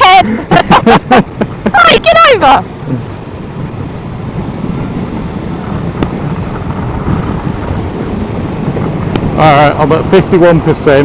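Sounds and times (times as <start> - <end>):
motorcycle wind and road noise: 0.0 - 11.0.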